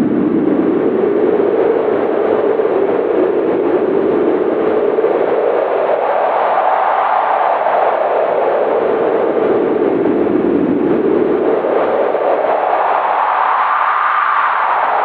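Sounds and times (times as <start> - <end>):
strong wind howling: 0.0 - 15.0.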